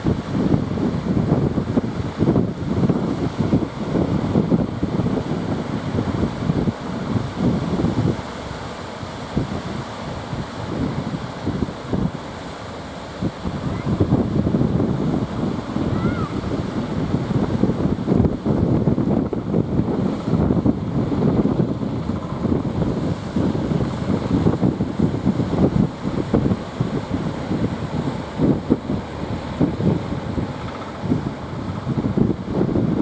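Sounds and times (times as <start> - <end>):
wind buffeting microphone: 0.0 - 12.4, 13.1 - 33.0
surf washing: 0.0 - 33.0.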